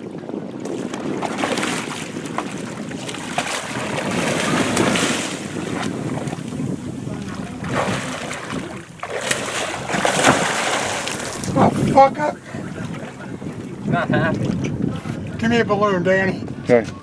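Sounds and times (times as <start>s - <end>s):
water sloshing against hull: 0.0s - 15.6s
wind buffeting microphone: 0.0s - 17.0s.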